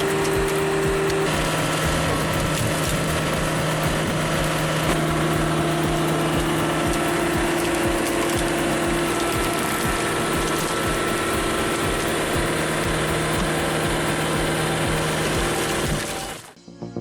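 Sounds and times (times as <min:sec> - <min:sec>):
engine hum: 0:00.0 - 0:16.6
wood being worked by machine: 0:00.0 - 0:16.6.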